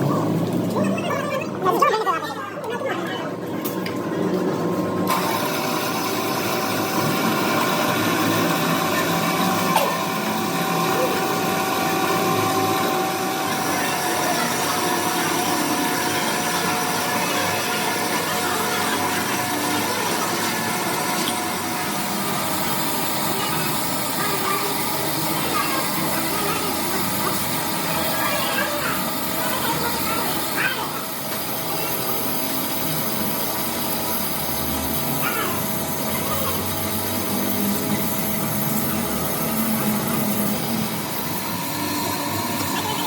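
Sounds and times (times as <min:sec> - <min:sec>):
steady mechanical noise: 0:00.0 - 0:43.0
power tool running: 0:04.4 - 0:43.0
faint voices: 0:05.6 - 0:43.0.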